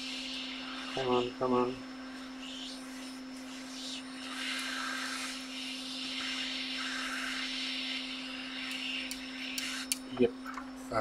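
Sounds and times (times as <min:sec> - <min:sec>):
hot air blower hissing: 0:00.0 - 0:10.3.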